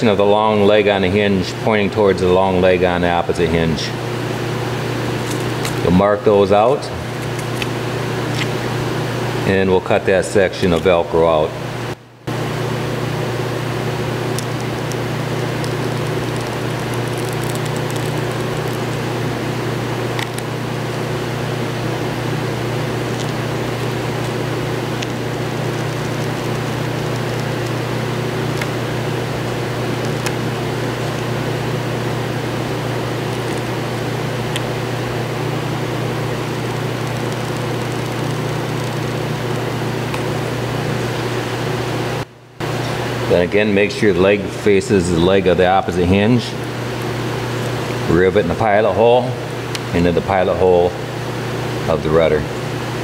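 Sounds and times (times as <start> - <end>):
mechanical hum: 0.0 - 53.0.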